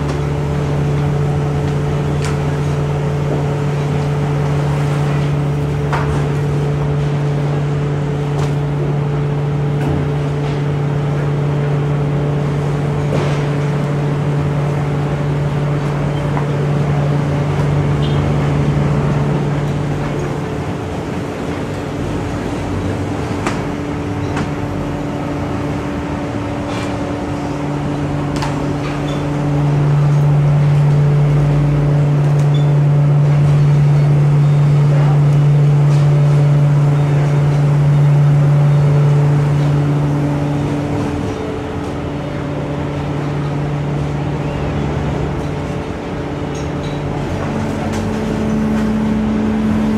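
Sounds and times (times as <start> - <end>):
machinery hum: 0.0 - 49.9.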